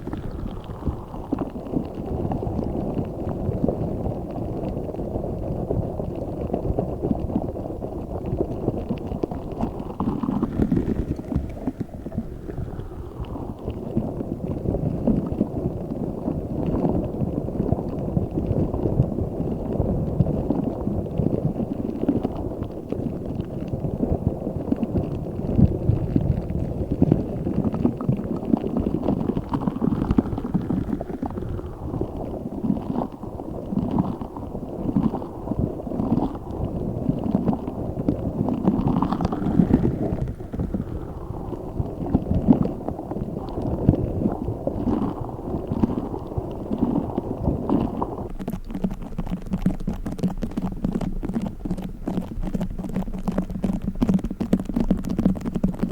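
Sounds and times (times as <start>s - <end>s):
foam crackling: 0.0s - 55.9s.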